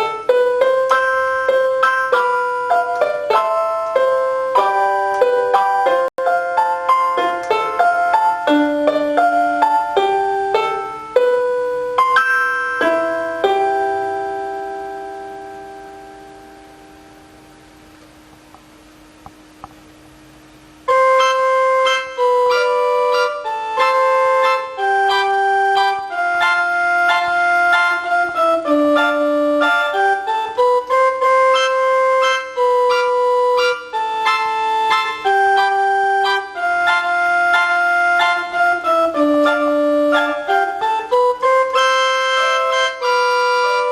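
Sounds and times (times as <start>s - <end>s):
electronic keyboard melody: 0.0s - 19.8s, 20.8s - 43.9s.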